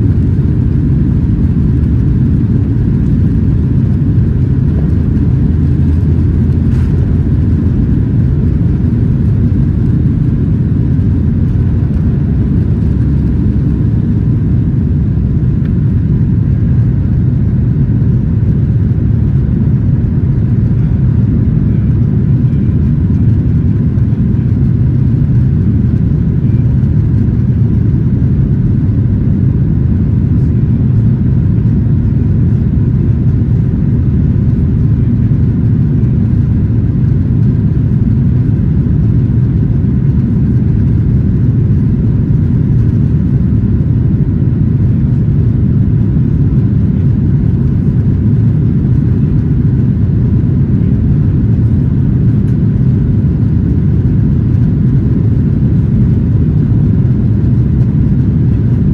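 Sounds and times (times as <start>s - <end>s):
airplane cabin engine roar: 0.0s - 58.9s.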